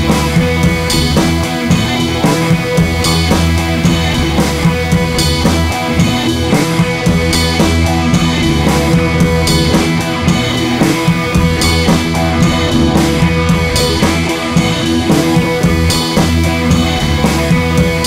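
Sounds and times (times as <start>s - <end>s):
rock music with drums and guitar: 0.0s - 18.0s.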